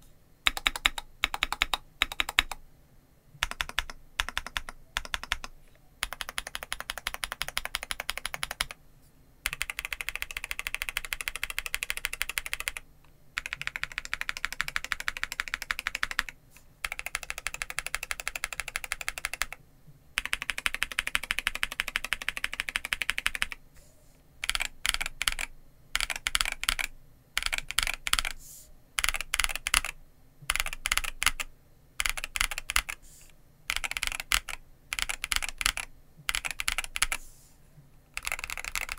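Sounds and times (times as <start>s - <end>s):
mechanical keyboard typing: 0.4s - 2.6s, 3.4s - 8.8s, 9.4s - 12.8s, 13.4s - 19.6s, 20.2s - 23.6s, 24.4s - 28.4s, 29.0s - 33.0s, 33.7s - 37.2s, 38.1s - 38.9s.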